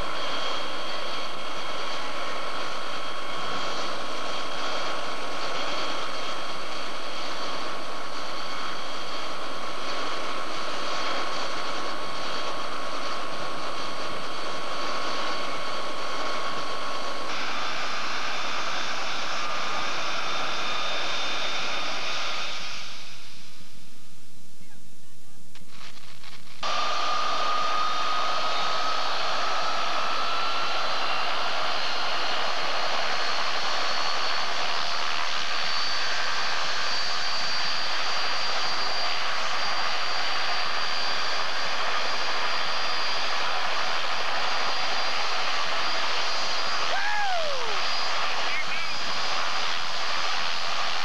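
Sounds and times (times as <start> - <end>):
helicopter turbine whine: 0.0 - 24.8, 26.6 - 51.0
helicopter rotor and engine noise: 0.0 - 51.0.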